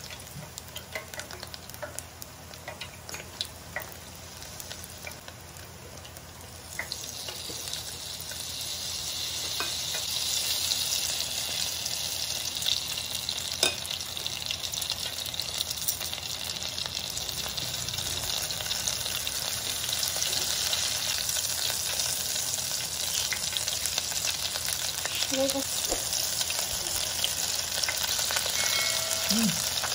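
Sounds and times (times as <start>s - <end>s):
deep-frying crackling sizzle: 0.0s - 29.9s.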